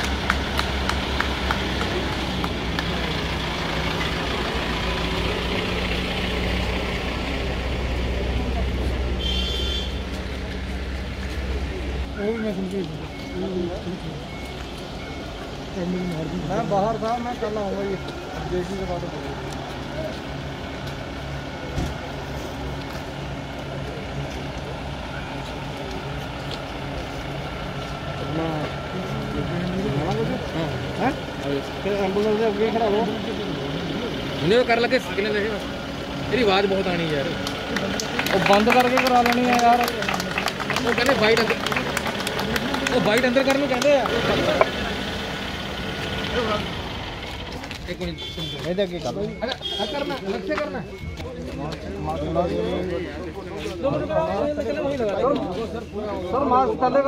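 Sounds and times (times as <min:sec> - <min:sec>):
vehicle engine passing by: 0:00.0 - 0:48.0.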